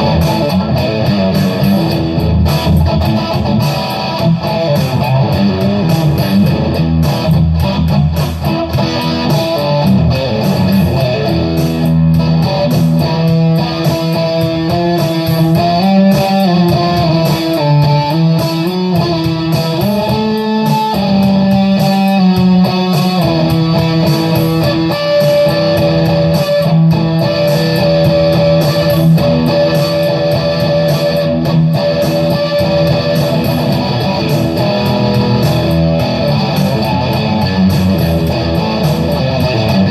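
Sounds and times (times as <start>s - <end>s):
electric guitar lead lines: 0.0s - 39.9s.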